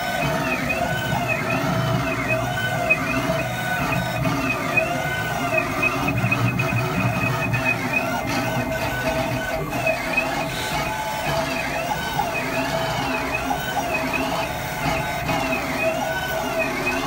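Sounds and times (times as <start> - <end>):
steady hum: 0.0 - 17.0
stepper motors whining: 0.0 - 17.0.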